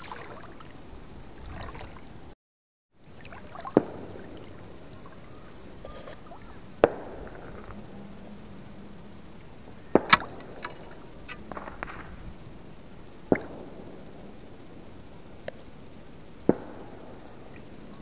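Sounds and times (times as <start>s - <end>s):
steady low hiss: 0.0s - 2.4s, 3.0s - 18.0s.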